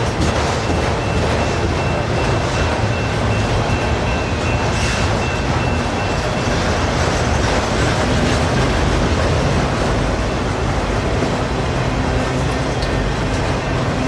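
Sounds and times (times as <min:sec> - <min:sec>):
steel train wheels on rails: 0:00.0 - 0:14.0.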